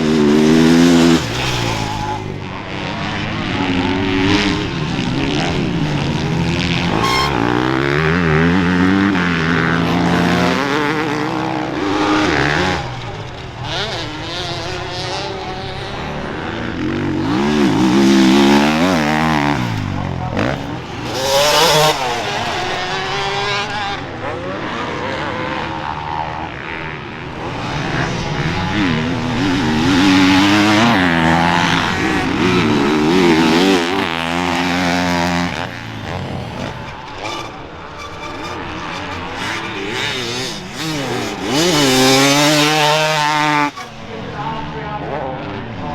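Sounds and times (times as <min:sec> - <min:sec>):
motocross engines revving: 0:00.0 - 0:45.9.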